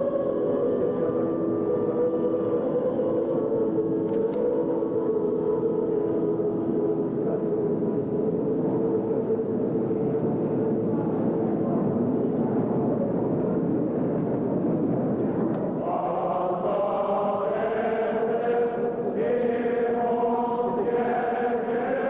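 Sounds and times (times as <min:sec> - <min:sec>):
choir chanting long notes: 0:00.0 - 0:12.6, 0:15.8 - 0:22.0.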